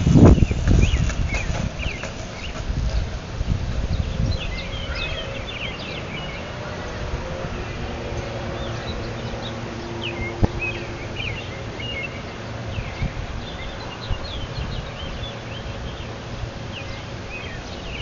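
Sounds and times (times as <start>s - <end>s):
small birds chirping: 0.2s - 3.2s, 3.8s - 18.0s.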